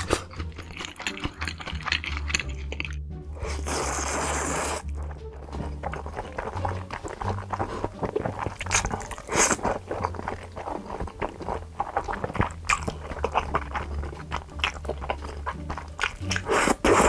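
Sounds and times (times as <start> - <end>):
noodles slurped and chewed: 0.0 - 17.0.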